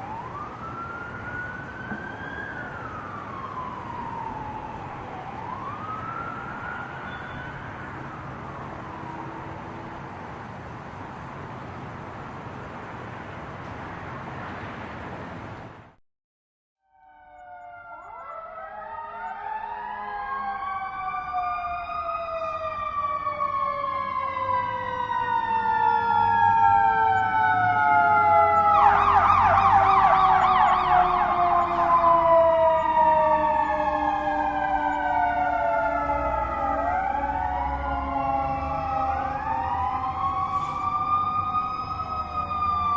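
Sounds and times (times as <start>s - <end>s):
siren yelp: 0.0s - 9.9s, 16.8s - 42.9s
police sirens wailing: 0.0s - 15.6s, 16.8s - 42.9s.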